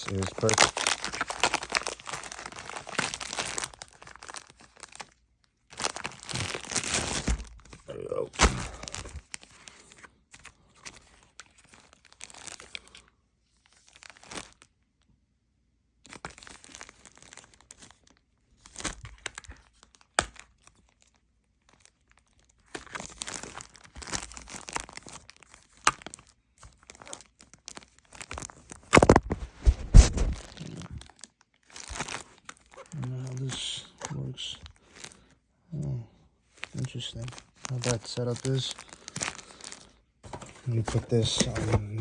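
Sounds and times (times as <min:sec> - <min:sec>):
packaging crinkling and rustling: 0:00.0 - 0:14.8, 0:16.0 - 0:35.3, 0:36.5 - 0:42.0.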